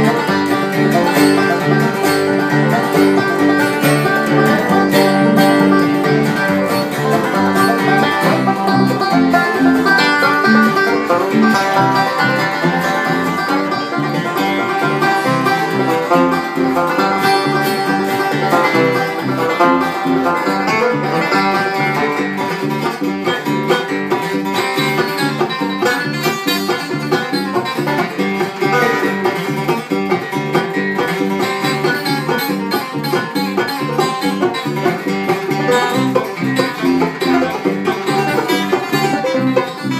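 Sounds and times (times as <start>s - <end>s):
banjo picking: 0.0s - 39.9s
bluegrass string band: 0.0s - 39.9s.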